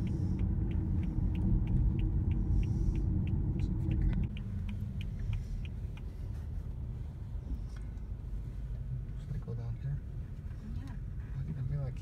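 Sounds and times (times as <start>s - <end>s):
car cabin road rumble: 0.0s - 12.0s
turn signal ticking: 0.0s - 12.0s.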